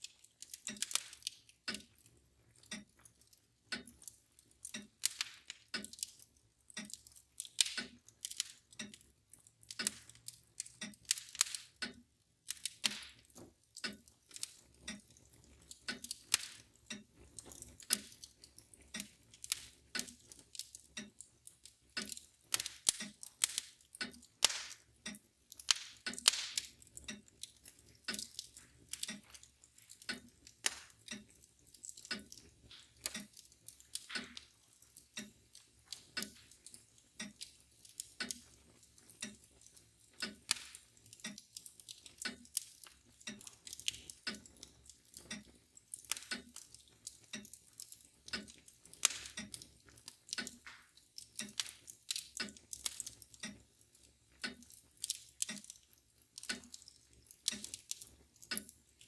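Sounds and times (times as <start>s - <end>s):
mantel clock ticking: 0.0s - 59.0s
wood fire crackling: 0.0s - 59.0s.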